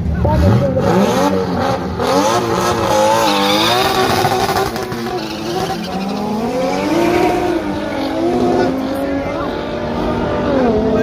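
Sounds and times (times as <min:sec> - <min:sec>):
drag car engines accelerating: 0:00.0 - 0:11.0.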